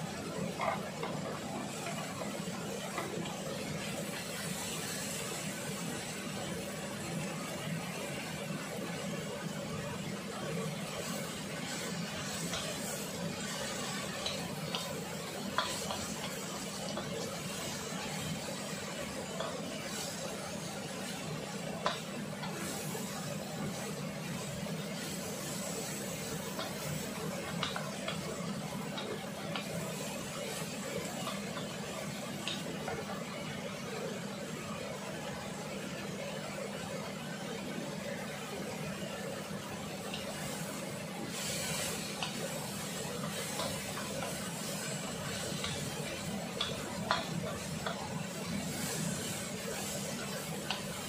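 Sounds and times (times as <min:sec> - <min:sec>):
gas flame hiss: 0:00.0 - 0:33.7, 0:39.5 - 0:51.0
vegetables stir-frying in a wok: 0:00.0 - 0:51.0.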